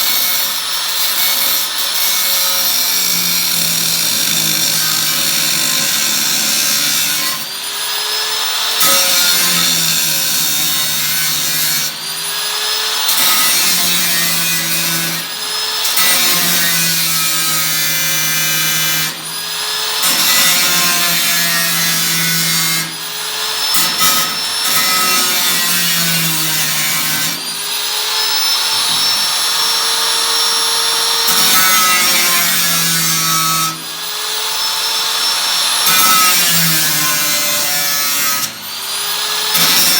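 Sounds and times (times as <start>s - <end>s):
power saw cutting sheet metal: 0.0s - 39.9s.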